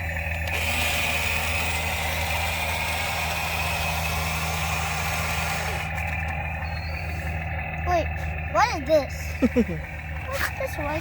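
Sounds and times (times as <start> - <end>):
toy electric motor humming: 0.0 - 11.0.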